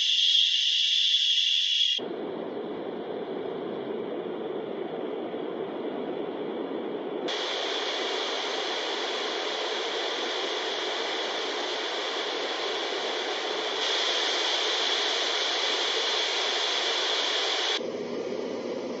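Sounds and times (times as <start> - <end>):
white noise machine hissing: 0.0 - 19.0.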